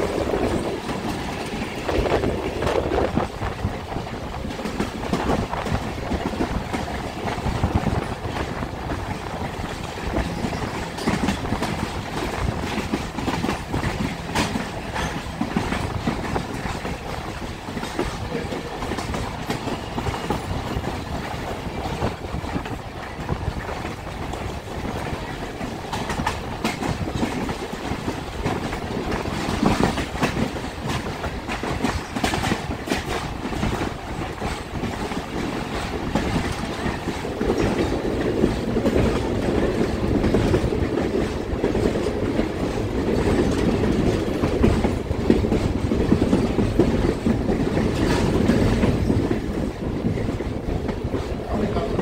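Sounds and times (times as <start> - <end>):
train wheels rumbling on track: 0.0 - 52.0
wheels clicking over rail joints: 0.0 - 52.0.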